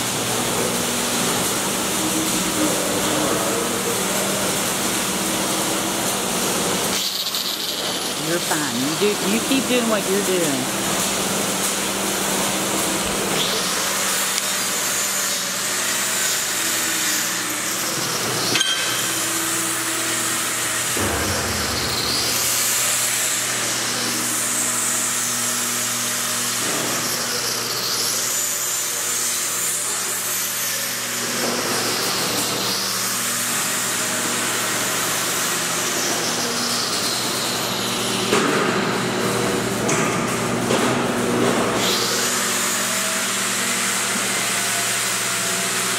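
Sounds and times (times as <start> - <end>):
power tools running with high whine: 0.0 - 45.9.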